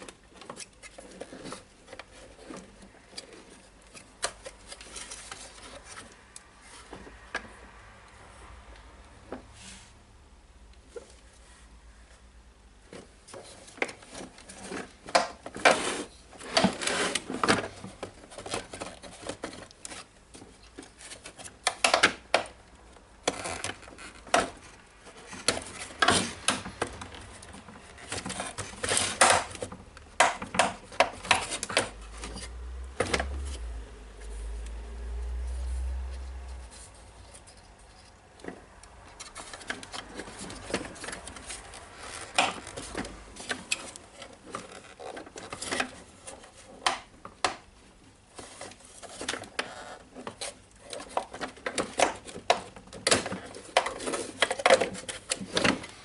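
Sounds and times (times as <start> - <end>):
plastic parts clicking and rattling: 0.0 - 7.6, 12.8 - 34.8, 36.6 - 56.0.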